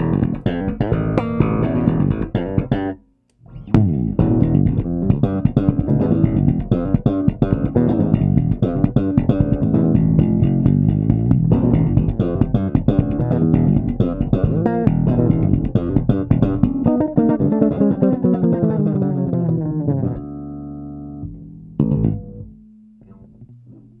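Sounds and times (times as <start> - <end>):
electric bass plucked notes: 0.0 - 24.0.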